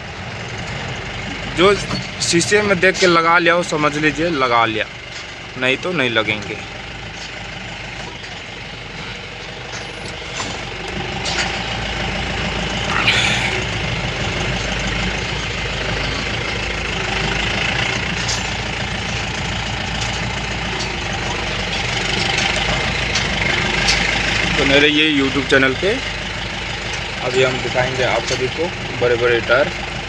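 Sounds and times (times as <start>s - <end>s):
pickup truck engine running: 0.0s - 12.9s, 13.6s - 30.0s.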